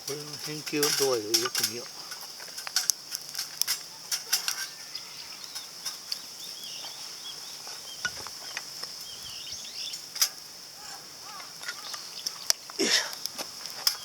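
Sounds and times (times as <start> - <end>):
small birds chirping: 0.0 - 14.0
wood fire crackling and popping: 0.0 - 14.0.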